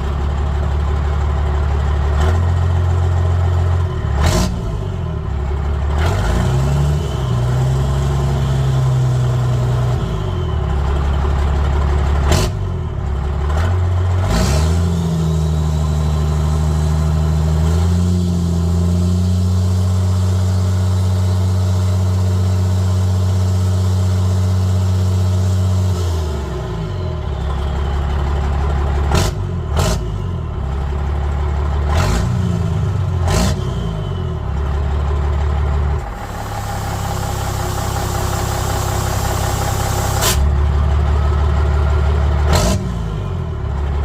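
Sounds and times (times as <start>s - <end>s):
diesel engine revving: 0.0s - 44.0s.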